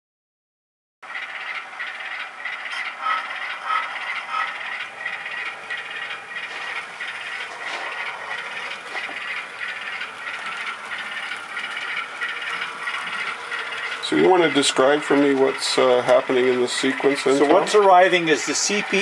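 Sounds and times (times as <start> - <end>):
model train wheels rattling: 1.1 - 19.0.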